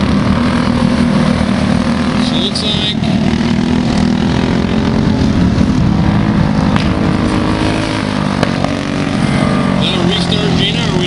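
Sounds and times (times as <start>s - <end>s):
go-kart engines droning: 0.0s - 11.0s.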